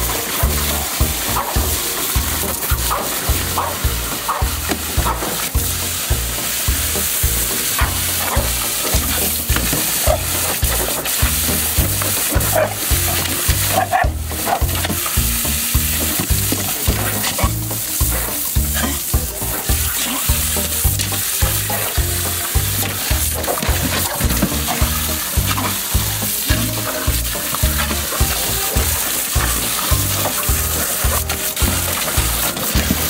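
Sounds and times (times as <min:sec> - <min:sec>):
background music with bass beat: 0:00.0 - 0:33.0
hose water spraying onto concrete: 0:00.0 - 0:33.0.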